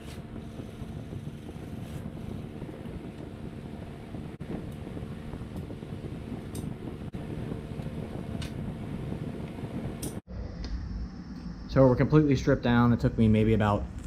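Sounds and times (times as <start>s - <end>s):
fan-like mechanical hum: 0.0s - 14.0s.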